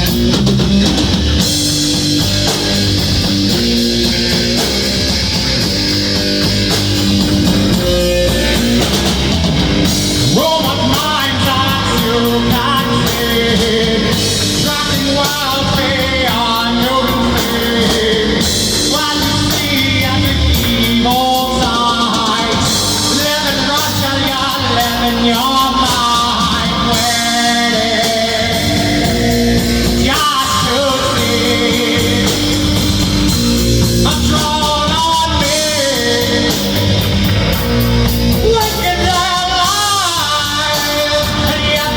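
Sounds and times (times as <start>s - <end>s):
electric guitar: 0.0s - 41.9s
rock band playing: 0.0s - 41.9s
person singing: 6.7s - 41.9s.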